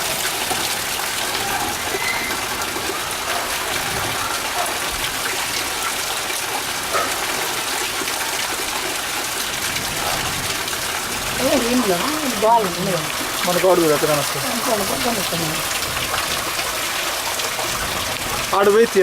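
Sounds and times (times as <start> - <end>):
heavy rain: 0.0 - 19.0
rushing rainwater: 0.0 - 19.0.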